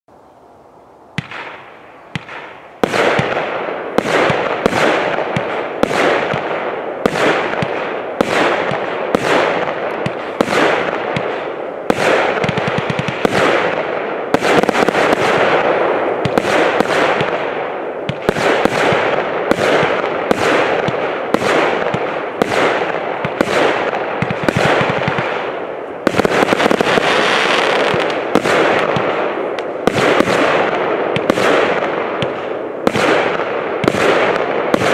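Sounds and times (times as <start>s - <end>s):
fireworks cake firing shots: 1.2s - 34.9s.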